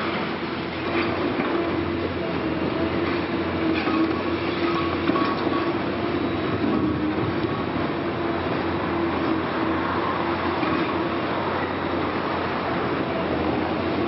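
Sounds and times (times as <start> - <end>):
excavator mechanical din: 0.0 - 14.0.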